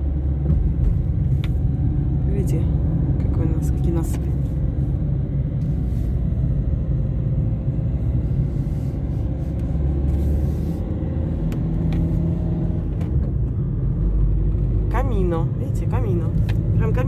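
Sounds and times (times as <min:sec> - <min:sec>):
engine and tyre road rumble: 0:00.0 - 0:17.0
faint engine hum: 0:00.0 - 0:17.0.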